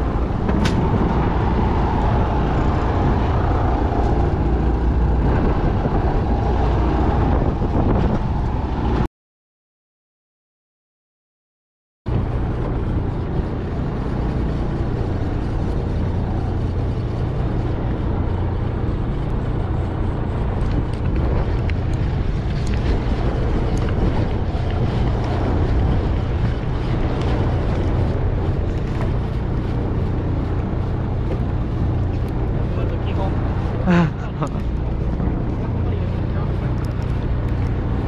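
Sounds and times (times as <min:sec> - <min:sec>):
boat engine droning: 0:00.0 - 0:09.0, 0:12.1 - 0:38.0
wind and water hiss: 0:00.0 - 0:09.0, 0:12.1 - 0:38.0.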